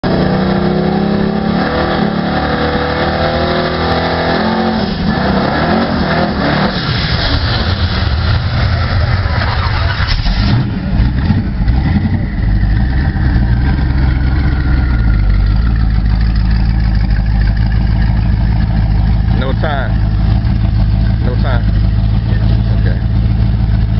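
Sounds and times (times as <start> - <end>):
loud truck engine running: 0.0 - 23.9.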